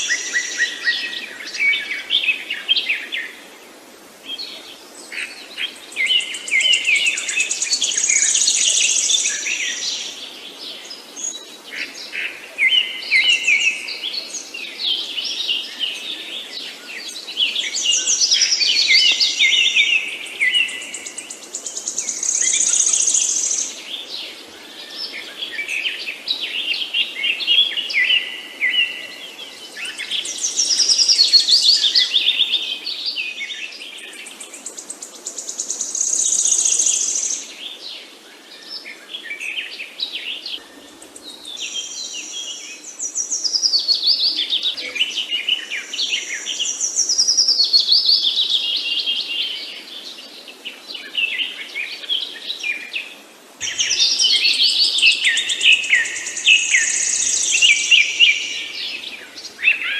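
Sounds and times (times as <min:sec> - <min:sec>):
songbirds chirping and singing: 0:04.3 - 0:59.9.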